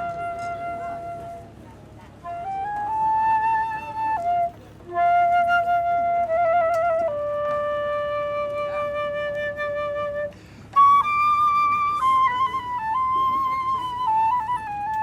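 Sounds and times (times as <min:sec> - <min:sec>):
woodwind playing slow melody: 0:00.0 - 0:15.0.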